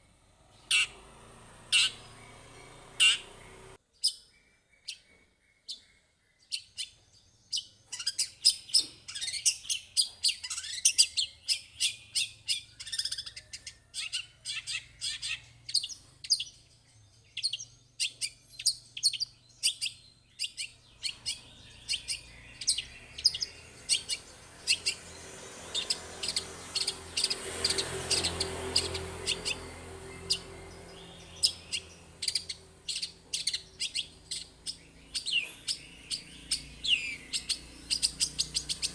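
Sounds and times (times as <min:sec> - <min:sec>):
bird singing sharp high chirps: 0:00.5 - 0:38.9.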